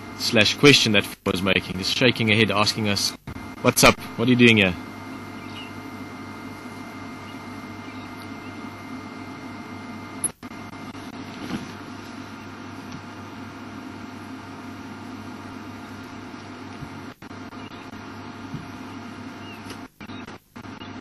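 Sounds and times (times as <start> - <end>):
background hum with hiss: 0.0 - 21.0.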